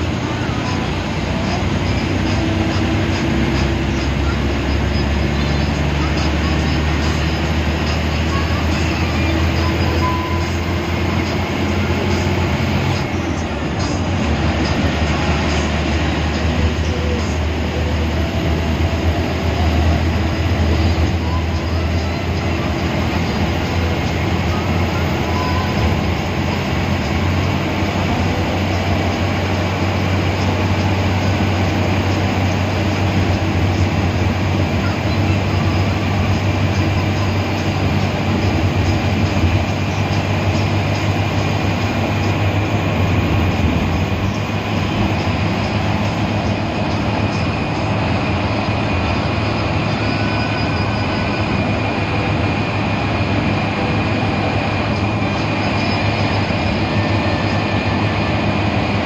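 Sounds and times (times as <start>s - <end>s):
bus engine hum: 0.0s - 59.0s
road and rolling noise: 0.0s - 59.0s.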